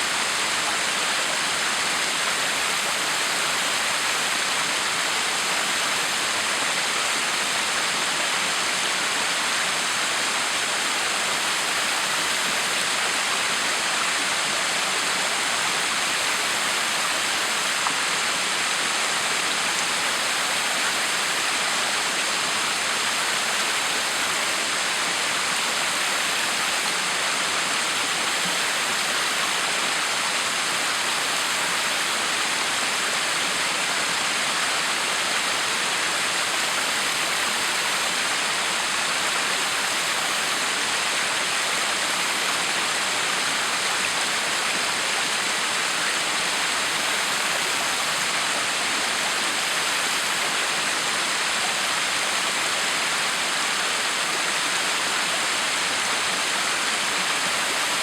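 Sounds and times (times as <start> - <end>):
waterfall pouring and splashing: 0.0 - 58.0.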